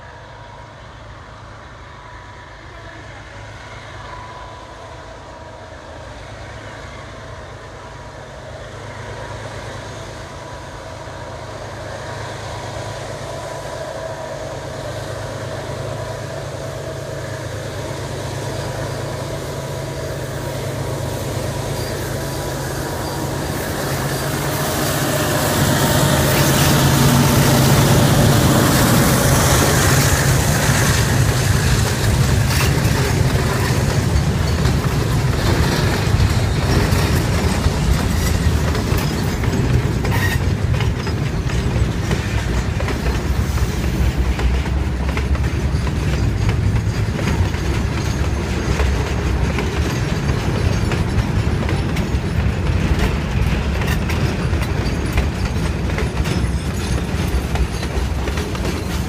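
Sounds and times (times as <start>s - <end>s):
diesel locomotive engine drone: 0.0s - 59.0s
train wheels on rail: 0.0s - 59.0s.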